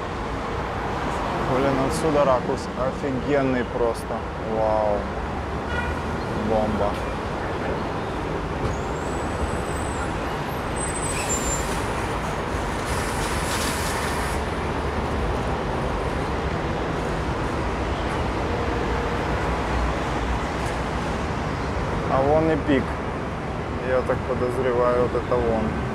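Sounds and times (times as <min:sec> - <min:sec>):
passing cars and buses: 0:00.0 - 0:25.9.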